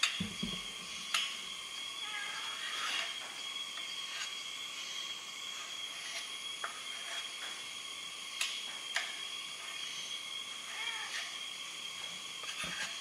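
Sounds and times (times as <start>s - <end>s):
high-pitched hiss: 0.0s - 13.0s
thin steady tone: 0.0s - 13.0s.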